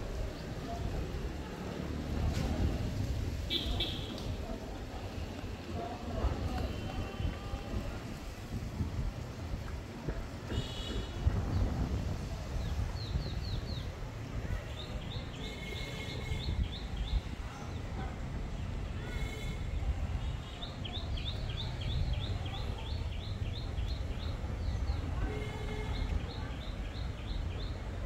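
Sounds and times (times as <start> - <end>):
wind rumble on microphone: 2.0 - 15.4, 16.2 - 28.0.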